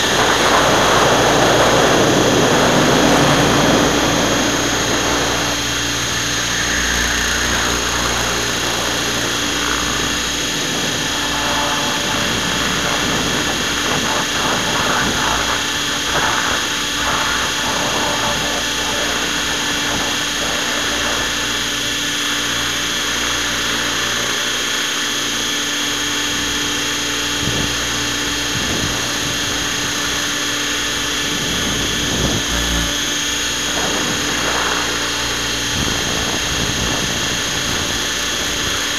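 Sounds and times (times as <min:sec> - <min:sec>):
model helicopter motor whine: 0:00.0 - 0:38.9.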